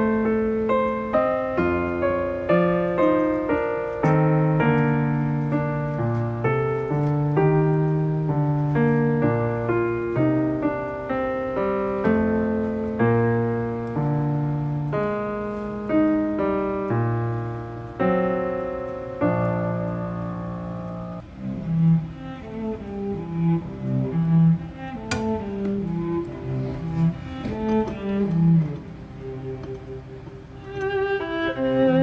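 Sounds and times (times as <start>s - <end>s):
slow piano chords and melody: 0.0s - 32.0s.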